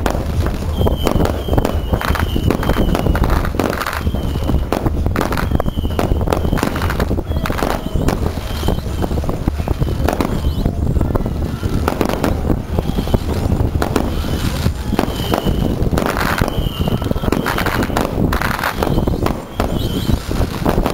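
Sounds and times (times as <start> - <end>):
fireworks bangs and crackles: 0.0 - 20.9.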